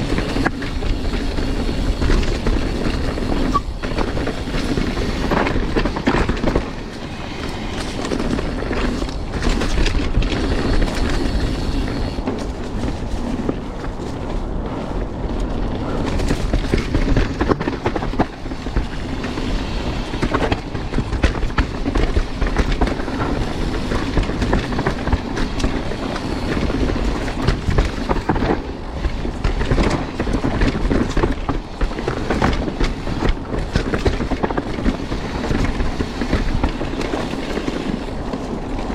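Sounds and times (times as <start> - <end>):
bike rattling and clicking: 0.0 - 38.9
bike tyres rumbling on dirt: 0.0 - 38.9.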